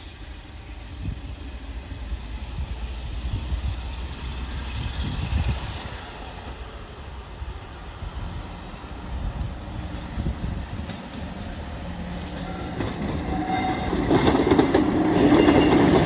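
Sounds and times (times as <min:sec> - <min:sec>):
hiss of wheel and rail noise: 0:00.0 - 0:16.0
train rumbling past: 0:00.0 - 0:16.0.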